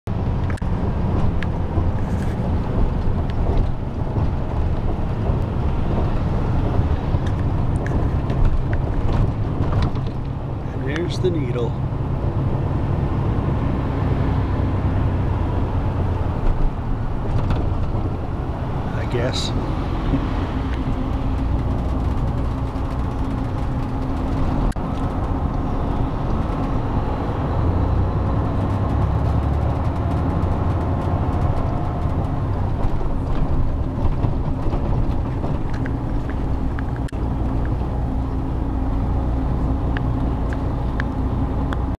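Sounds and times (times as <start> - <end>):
bus engine and road rumble: 0.1 - 42.0.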